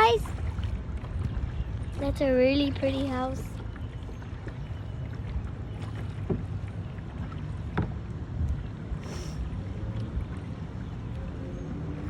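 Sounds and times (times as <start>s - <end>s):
paddle strokes in water: 0.0s - 12.0s
water lapping at hull: 0.0s - 12.0s
wind rumble on microphone: 0.0s - 12.0s.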